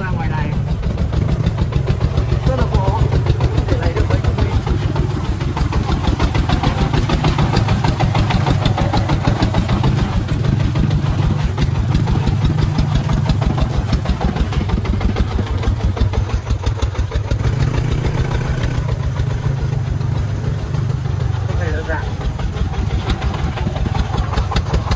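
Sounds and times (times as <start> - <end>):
diesel engine chugging: 0.0 - 24.9.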